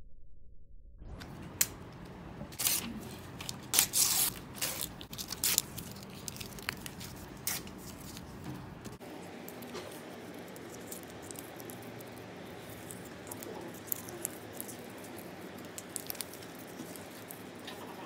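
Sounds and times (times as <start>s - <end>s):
low murmur of room noise: 1.2s - 18.0s.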